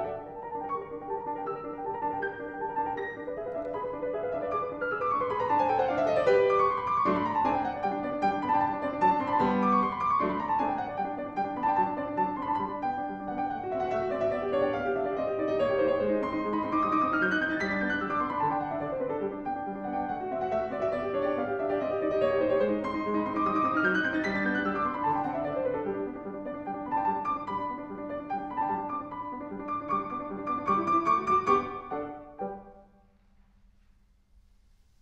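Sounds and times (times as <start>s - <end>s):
classical solo piano: 0.0s - 33.0s.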